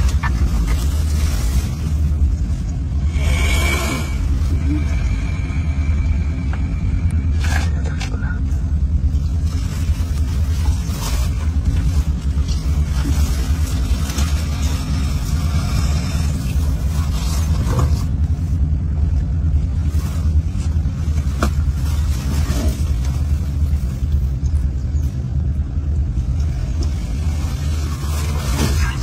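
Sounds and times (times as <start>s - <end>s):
low rumble: 0.0s - 29.0s.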